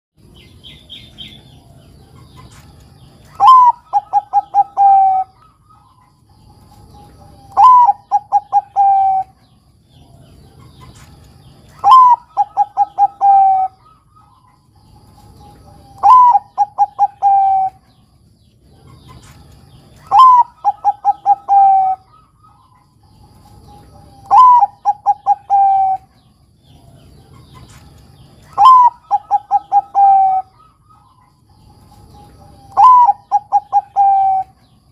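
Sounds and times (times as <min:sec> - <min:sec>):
dove cooing: 0:03.3 - 0:06.1, 0:06.8 - 0:10.8, 0:11.7 - 0:18.0, 0:20.0 - 0:34.8.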